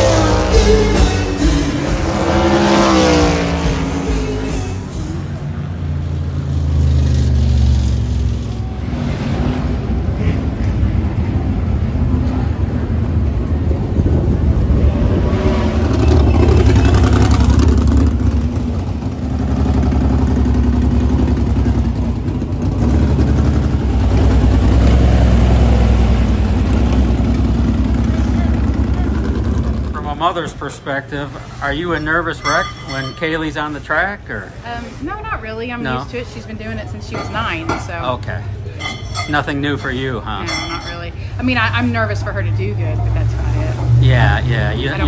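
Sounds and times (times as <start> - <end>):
race car engines passing: 0.0 - 45.0.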